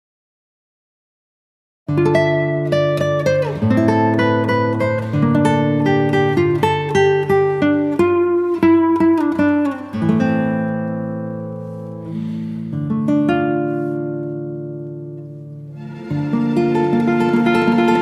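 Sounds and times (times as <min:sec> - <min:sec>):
acoustic guitar playing: 0:01.9 - 0:18.0.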